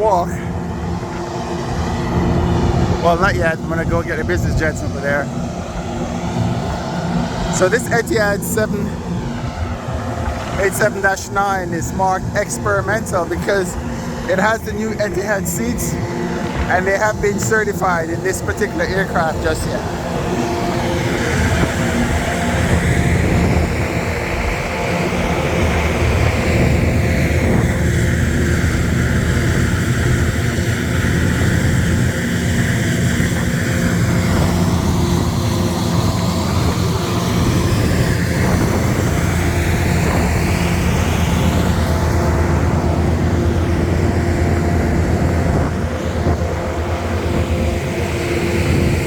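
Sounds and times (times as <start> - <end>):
aircraft engine rumble: 0.0 - 49.0.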